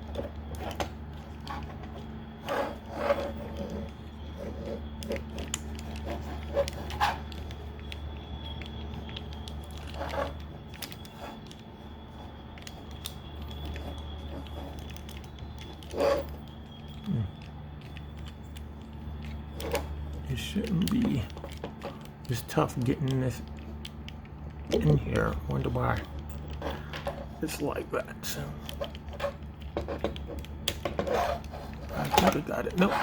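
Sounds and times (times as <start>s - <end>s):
plastic parts clicking: 0.0s - 33.0s
steady low hum: 0.0s - 33.0s.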